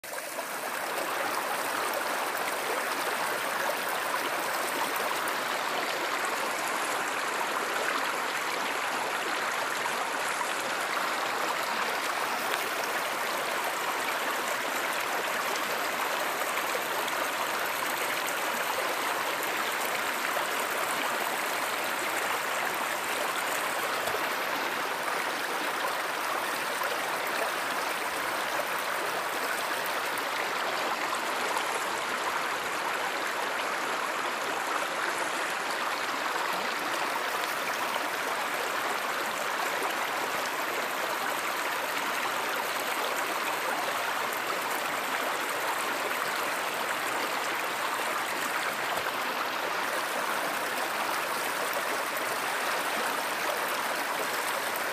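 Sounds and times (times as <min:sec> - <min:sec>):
stream water babbling: 0:00.0 - 0:54.9.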